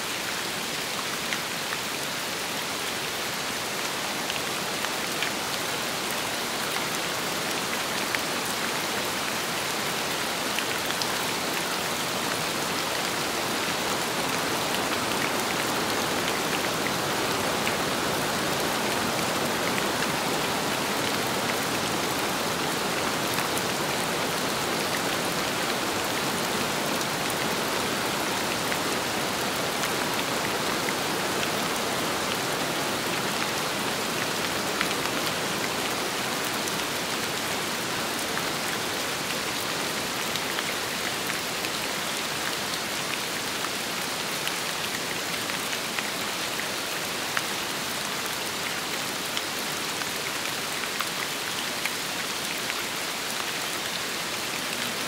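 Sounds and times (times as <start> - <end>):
steady rain: 0.0 - 55.0
wind: 0.0 - 55.0.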